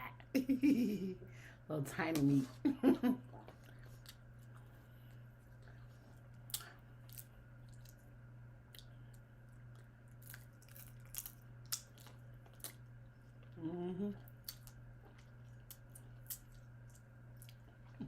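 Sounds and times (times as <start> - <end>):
person chewing: 3.4 - 18.0.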